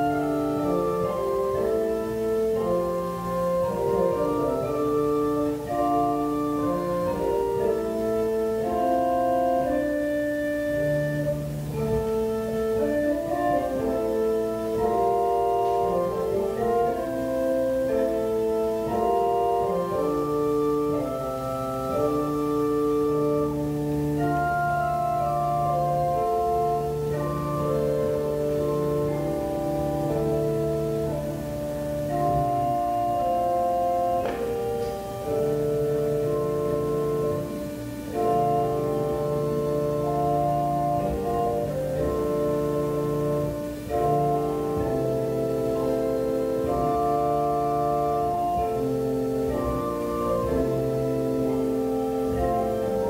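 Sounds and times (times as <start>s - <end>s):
organ playing slow chords: 0.0s - 53.0s.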